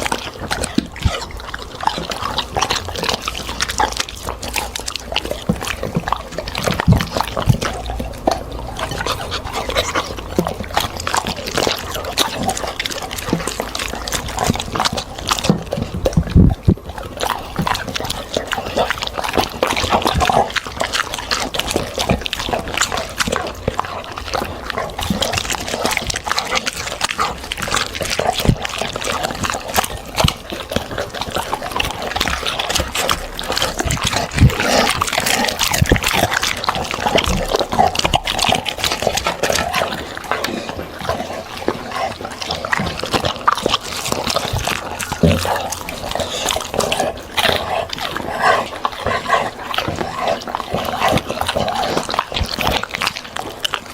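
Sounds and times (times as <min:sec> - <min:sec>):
dog chewing: 0:00.0 - 0:53.9.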